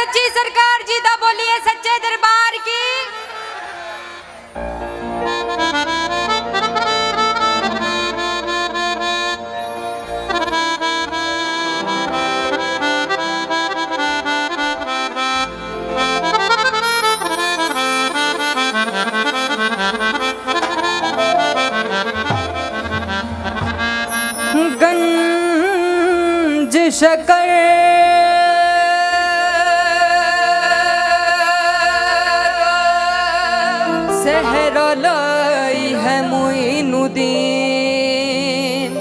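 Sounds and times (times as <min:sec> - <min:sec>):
harmonium melody: 0:00.0 - 0:39.0.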